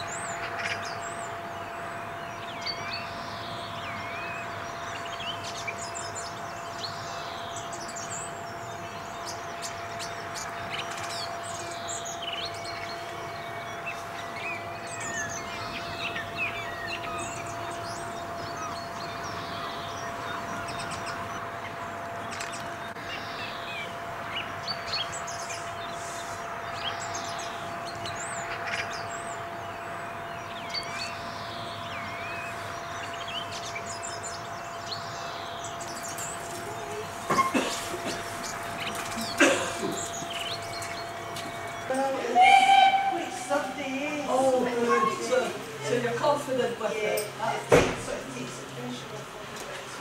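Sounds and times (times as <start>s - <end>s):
faint constant hum: 0.0s - 50.0s
songbirds chirping: 0.0s - 50.0s
steady background hiss: 0.0s - 50.0s.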